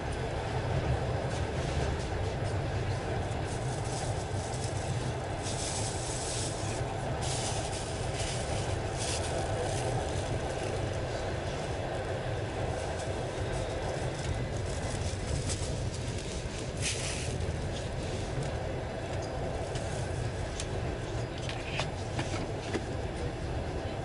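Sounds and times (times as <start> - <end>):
rumble of wheels on rails: 0.0 - 24.0.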